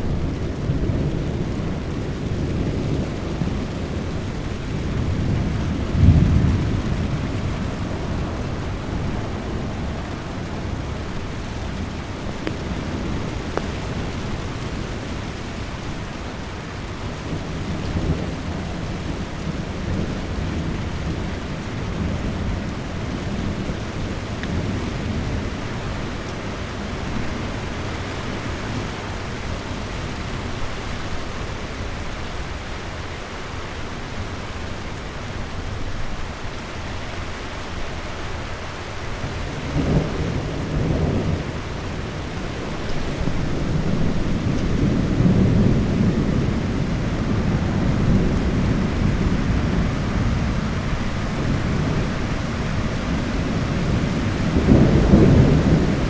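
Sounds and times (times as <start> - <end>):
thunder rumbling: 0.0 - 32.5, 39.0 - 56.0
rain hissing: 0.0 - 56.0.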